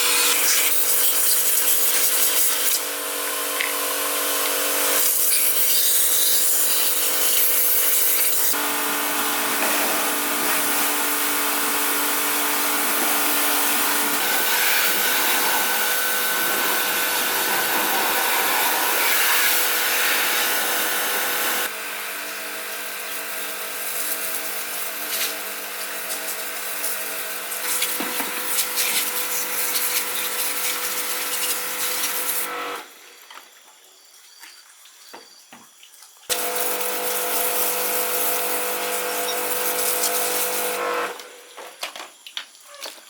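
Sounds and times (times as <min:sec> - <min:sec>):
small electric power tool running: 0:00.0 - 0:32.9, 0:36.3 - 0:41.5.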